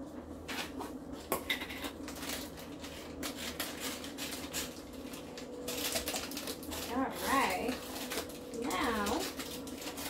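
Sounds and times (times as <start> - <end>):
plastic containers clicking and rustling: 1.3 - 10.0.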